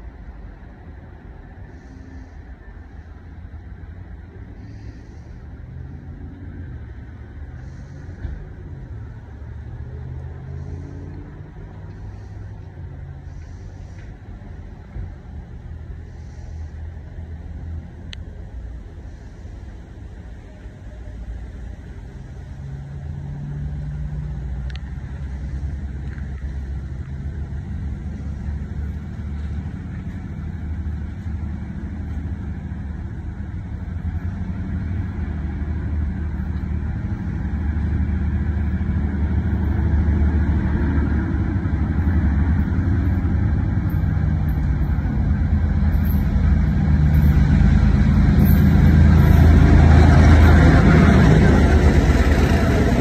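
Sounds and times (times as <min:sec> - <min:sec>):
diesel locomotive engines rumbling: 0:00.0 - 0:53.0.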